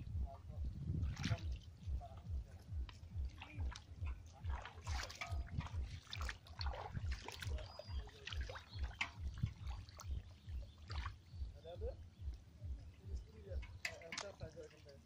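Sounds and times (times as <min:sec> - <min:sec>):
low regular thudding: 0:00.0 - 0:14.7
splashing in shallow water: 0:00.9 - 0:15.0.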